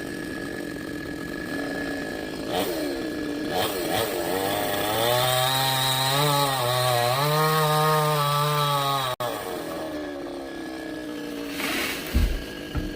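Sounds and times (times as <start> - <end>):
chainsaw engine running: 0.0 - 12.9.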